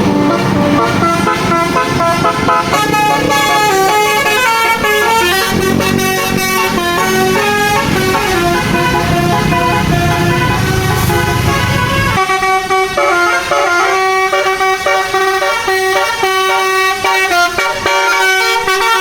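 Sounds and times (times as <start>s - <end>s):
bus musical air horn: 0.0s - 19.0s.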